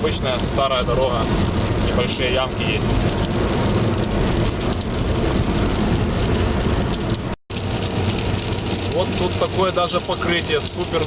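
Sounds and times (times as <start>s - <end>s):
car tyre and road noise: 0.0s - 11.0s.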